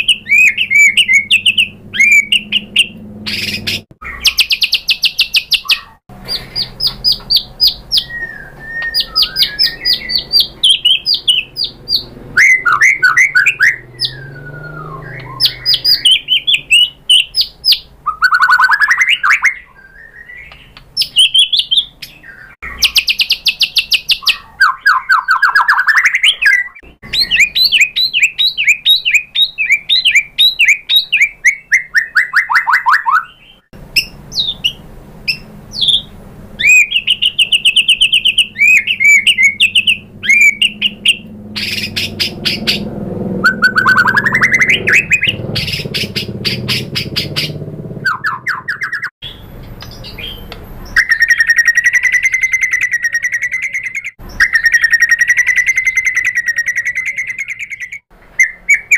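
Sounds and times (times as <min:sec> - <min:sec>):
bird singing trills and whistles: 0:00.0 - 0:58.9.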